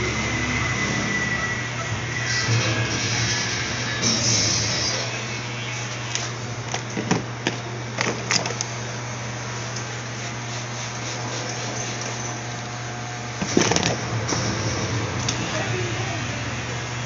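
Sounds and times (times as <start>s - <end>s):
low electric hum: 0.0s - 17.0s.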